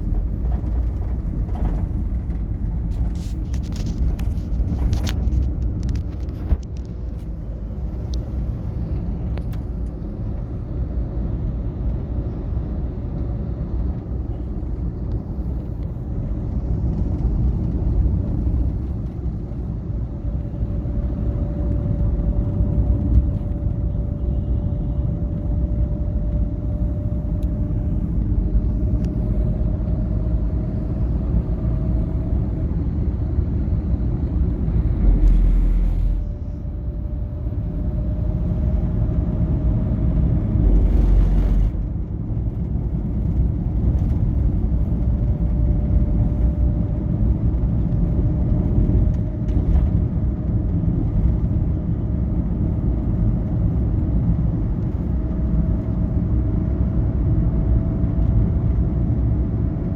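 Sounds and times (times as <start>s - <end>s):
vehicle rumble from inside: 0.0s - 59.9s.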